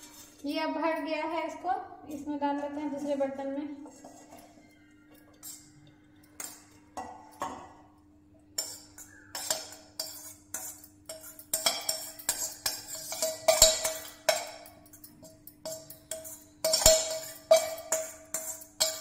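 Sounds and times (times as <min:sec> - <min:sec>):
metal bowls clanking: 0:02.1 - 0:19.0.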